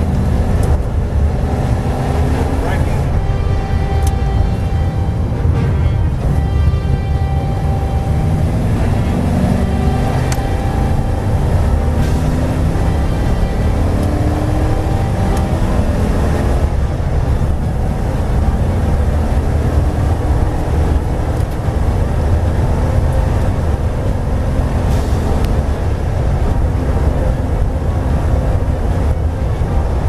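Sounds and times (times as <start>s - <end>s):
race car engine from inside cabin: 0.0s - 30.0s
road and wind noise: 0.0s - 30.0s.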